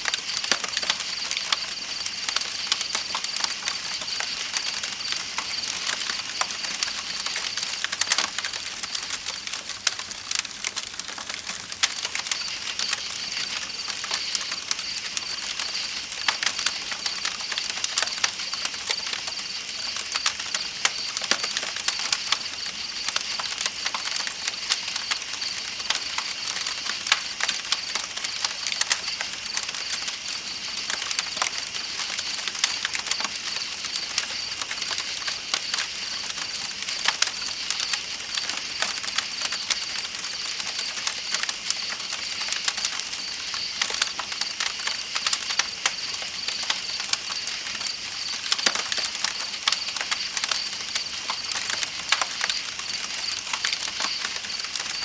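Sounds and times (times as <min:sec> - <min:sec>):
night insects chirping: 0:00.0 - 0:10.4, 0:11.2 - 0:55.0
campfire crackling and popping: 0:00.0 - 0:55.0.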